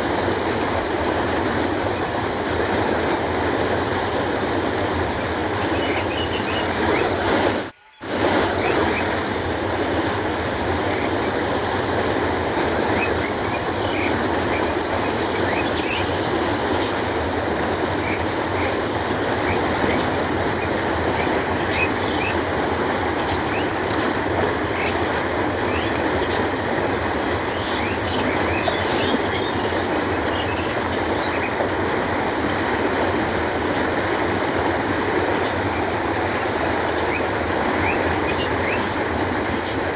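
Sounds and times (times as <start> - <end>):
canal water rushing: 0.0 - 39.9.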